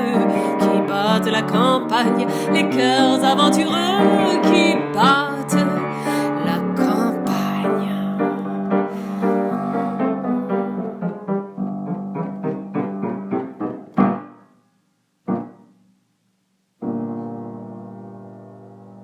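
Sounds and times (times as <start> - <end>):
solo piano: 0.0 - 15.9, 16.8 - 19.0.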